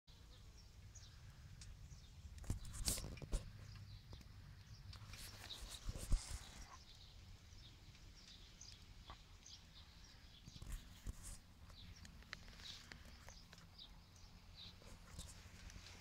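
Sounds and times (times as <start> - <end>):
distant small birds chirping: 0.1 - 16.0
wood fire crackling: 0.2 - 16.0.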